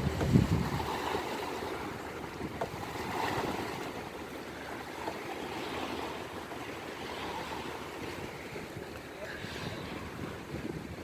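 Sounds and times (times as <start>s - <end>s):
sea waves washing onto shore: 0.0s - 11.0s.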